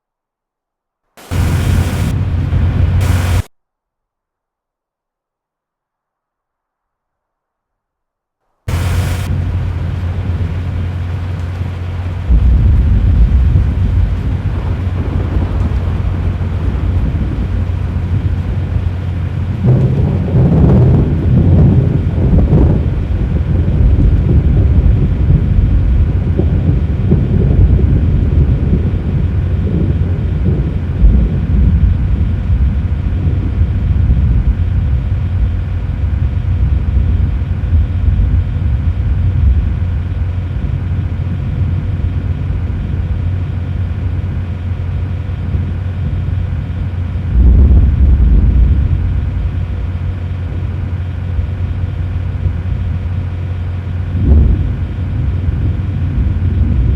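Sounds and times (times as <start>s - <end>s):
thunder rumbling: 1.2s - 3.5s, 8.7s - 56.9s.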